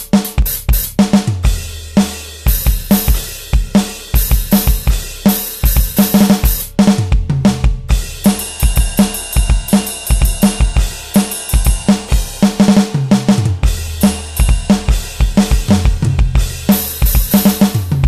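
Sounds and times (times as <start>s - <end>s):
drum kit playing a steady beat: 0.0s - 18.0s.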